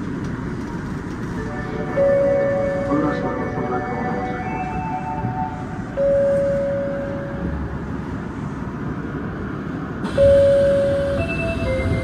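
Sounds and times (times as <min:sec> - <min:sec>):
train rumbling in tunnel: 0:00.0 - 0:12.0.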